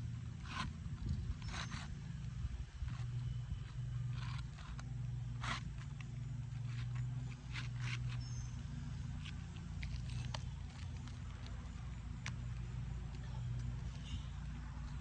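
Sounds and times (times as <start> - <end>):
low steady hum: 0.0 - 15.0
shingles scraping: 0.2 - 12.6.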